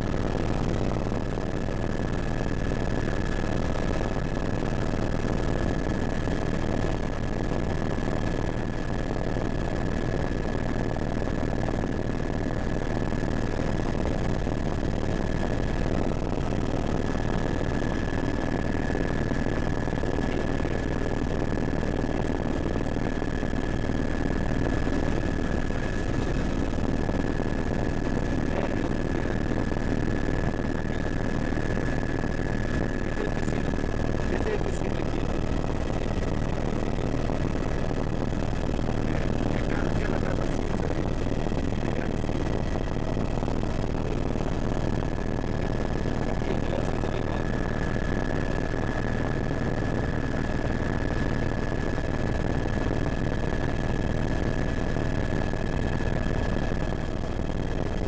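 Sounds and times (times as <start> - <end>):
constant high whine: 0.0 - 58.0
helicopter engine and rotor: 0.0 - 58.0.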